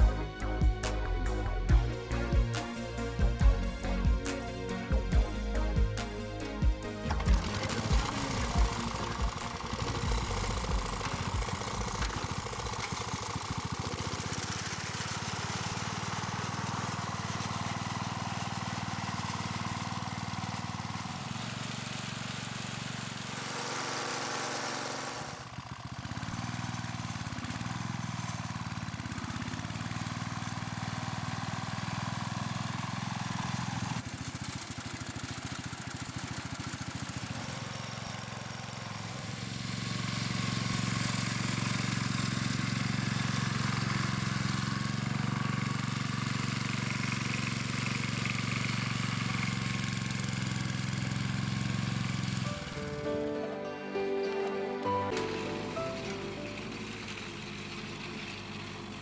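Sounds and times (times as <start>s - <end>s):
farm machine engine running: 5.4s - 59.0s.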